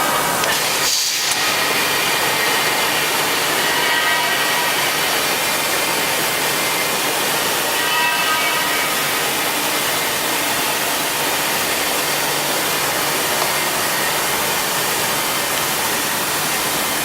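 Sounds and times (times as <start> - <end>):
router machining noise: 0.0 - 17.0.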